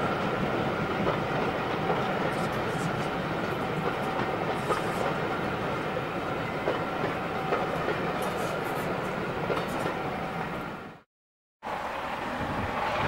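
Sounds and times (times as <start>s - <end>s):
train coaches rumbling on rails: 0.0s - 11.0s, 11.6s - 13.0s.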